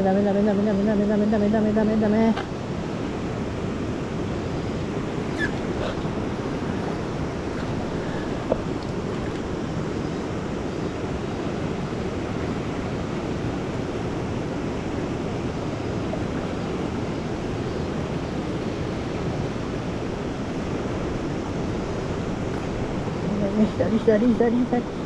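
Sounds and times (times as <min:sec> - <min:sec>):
river current rushing: 0:01.3 - 0:25.0.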